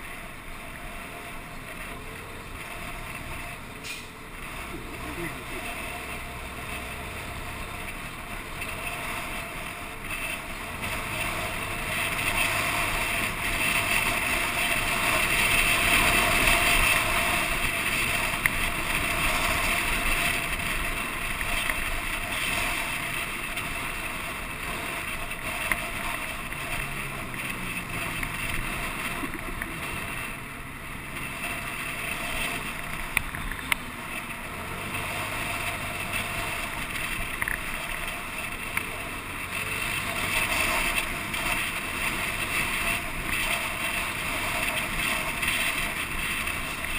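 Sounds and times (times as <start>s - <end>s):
road noise: 0.0s - 46.9s
vehicle engine hum: 0.0s - 46.9s
wind rushing over microphone: 0.0s - 46.9s.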